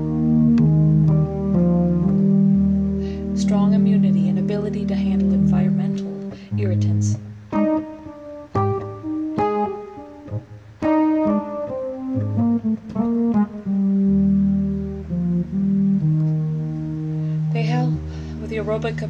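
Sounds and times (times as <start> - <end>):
electronic keyboard notes and chords: 0.0 - 19.0.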